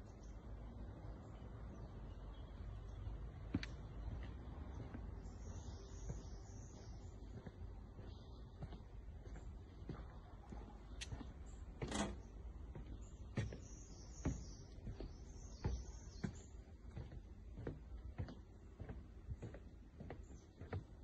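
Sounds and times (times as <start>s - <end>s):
bird chirping: 0.0s - 21.0s
footsteps on wooden boardwalk: 0.2s - 21.0s.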